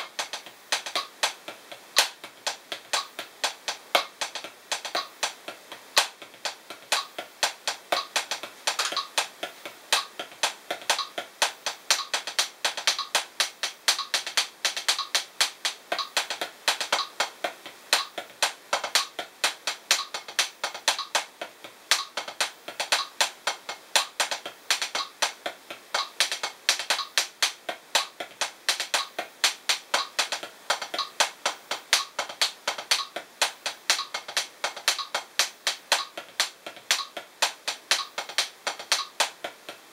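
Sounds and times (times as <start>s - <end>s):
drumsticks tapping practice pad: 0.0s - 39.9s.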